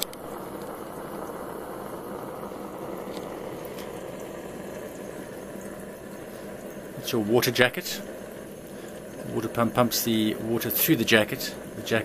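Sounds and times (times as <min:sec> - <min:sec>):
engine generator running: 0:00.0 - 0:12.0.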